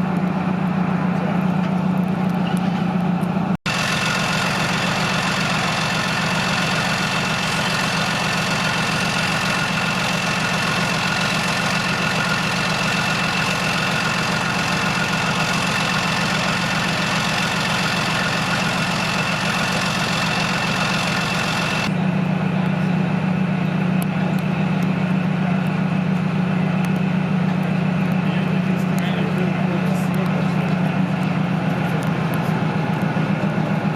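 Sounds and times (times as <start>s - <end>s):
heavy vehicle engine idling: 0.0s - 33.9s
steady high whine: 0.0s - 33.9s.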